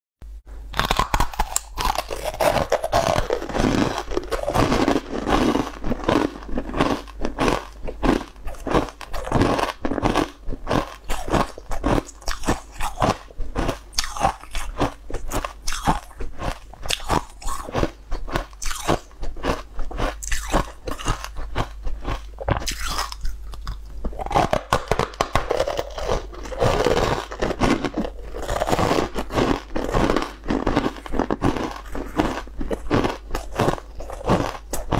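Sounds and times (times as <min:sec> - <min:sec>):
crunching and chewing ice: 0:00.7 - 0:34.9.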